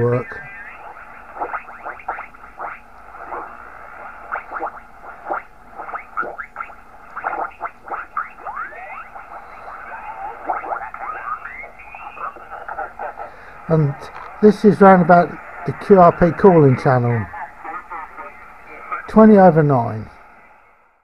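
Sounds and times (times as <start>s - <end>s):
garbled radio voices: 0.0s - 20.2s
radio hiss: 0.0s - 21.0s.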